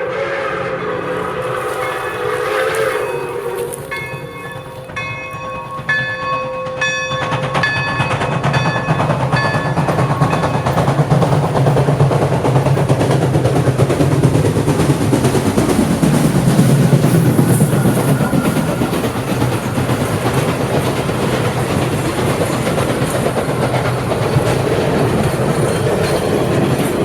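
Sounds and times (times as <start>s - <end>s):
train rumble: 0.0s - 27.0s
locomotive bell ringing: 1.0s - 13.0s, 16.6s - 27.0s.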